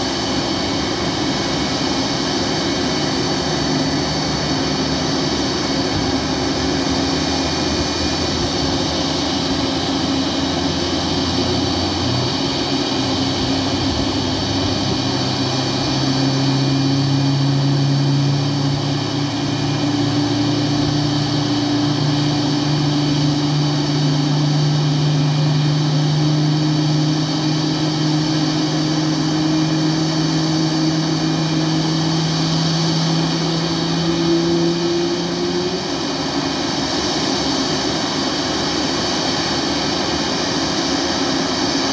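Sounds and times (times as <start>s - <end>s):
jet engines idling: 0.0s - 41.9s.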